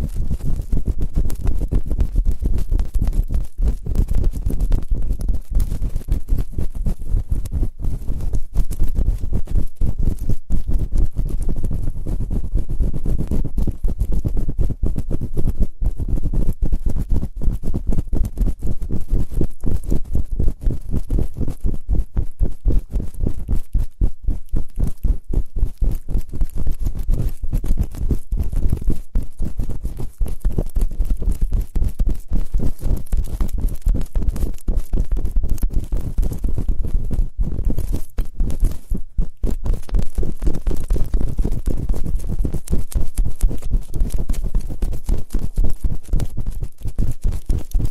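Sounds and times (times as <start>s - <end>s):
scratching and rubbing on microphone: 0.0s - 47.9s.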